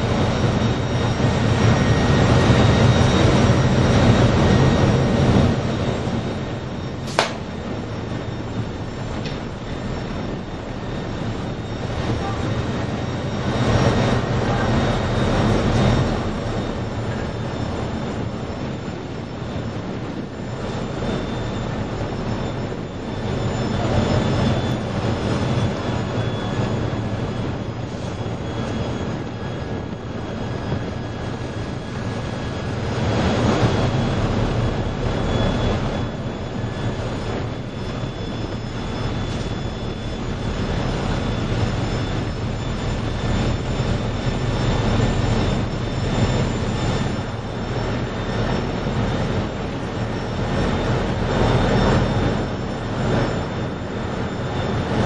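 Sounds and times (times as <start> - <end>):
boat engines rumbling and whining: 0.0 - 55.0
sea noise: 0.0 - 55.0
wind: 0.0 - 55.0.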